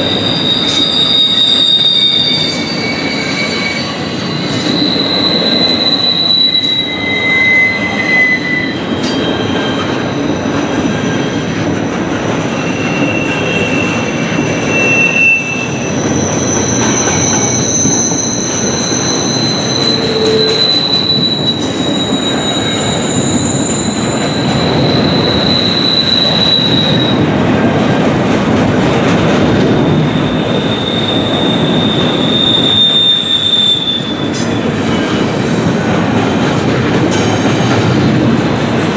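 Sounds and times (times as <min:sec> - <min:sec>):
steel wheels squealing: 0:00.0 - 0:27.8, 0:29.5 - 0:38.9
freight train rumbling past: 0:00.0 - 0:38.9.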